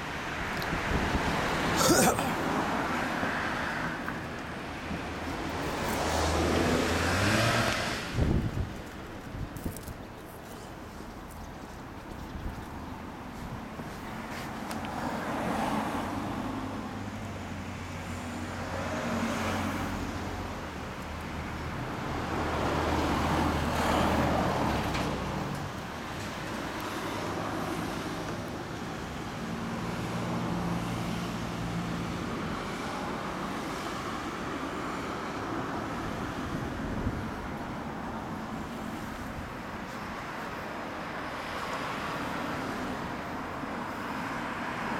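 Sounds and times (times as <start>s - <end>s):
vehicles passing on street: 0.0s - 44.9s.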